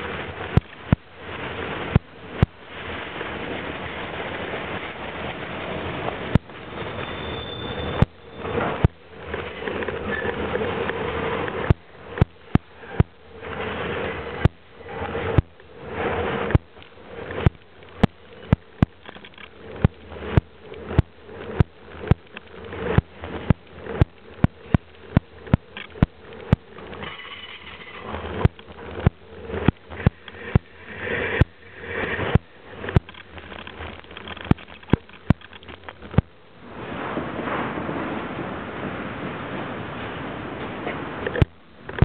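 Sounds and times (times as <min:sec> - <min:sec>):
wheels clicking over rail joints: 0:00.0 - 0:36.5, 0:40.0 - 0:42.0
freight cars rumbling: 0:00.0 - 0:42.0.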